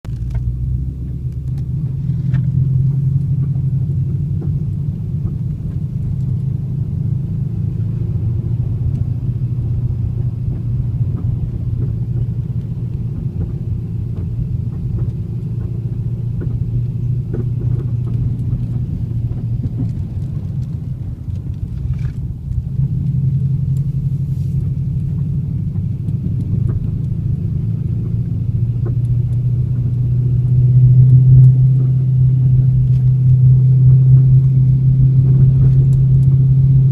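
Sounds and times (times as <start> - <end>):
car engine rumbling: 0.0 - 36.9.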